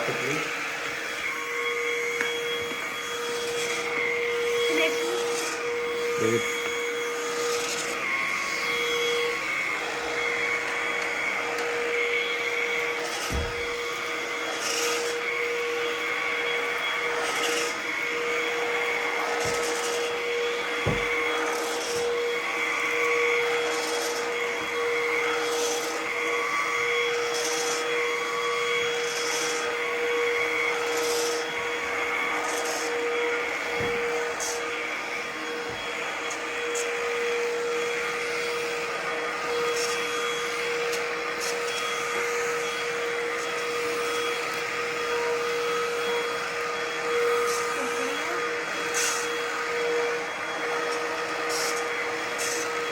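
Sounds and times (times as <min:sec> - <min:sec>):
vacuum motor hum: 0:00.0 - 0:52.9
vacuum swishing over carpet: 0:00.0 - 0:52.9.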